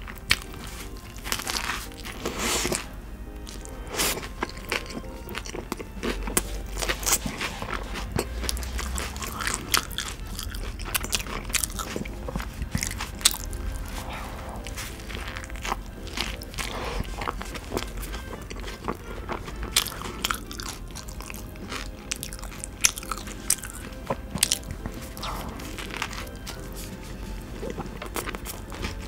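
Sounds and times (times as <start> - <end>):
biting into burger: 0.0 - 29.0
moist crunchy chewing: 0.0 - 29.0.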